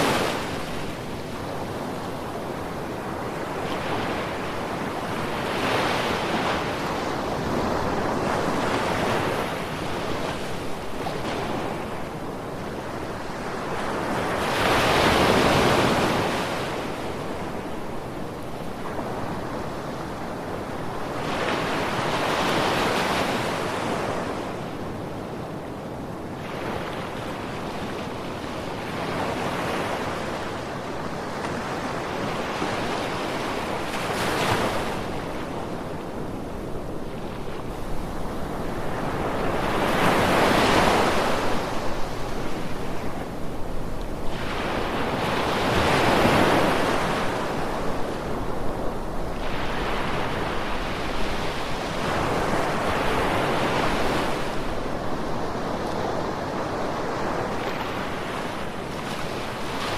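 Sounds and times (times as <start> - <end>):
ocean waves washing on beach: 0.0 - 59.9.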